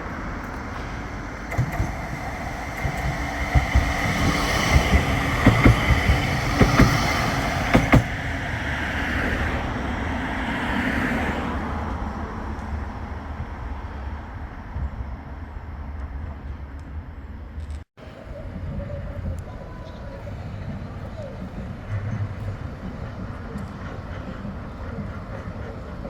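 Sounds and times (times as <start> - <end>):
tram running on rails: 0.0 - 26.0.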